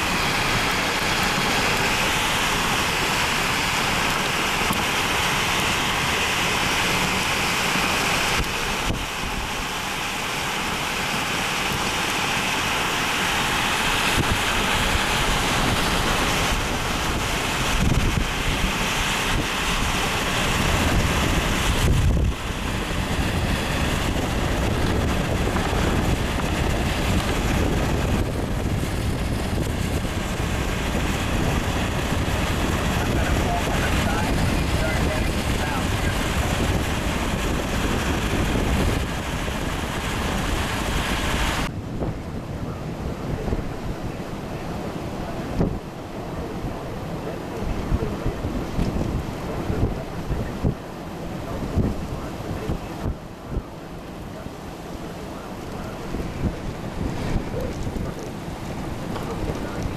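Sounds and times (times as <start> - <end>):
gusty wind buffeting microphone: 0.0 - 59.9.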